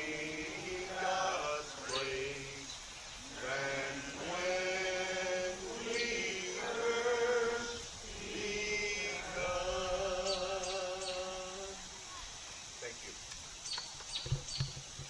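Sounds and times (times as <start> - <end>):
congregation singing a hymn: 0.0 - 12.6.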